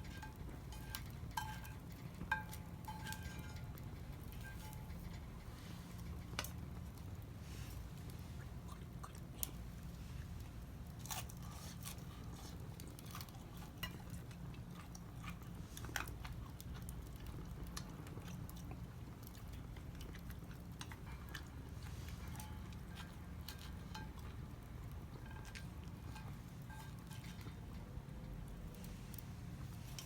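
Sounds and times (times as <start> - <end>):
low steady rumble: 0.0 - 30.0
wood fire crackling: 0.0 - 30.0.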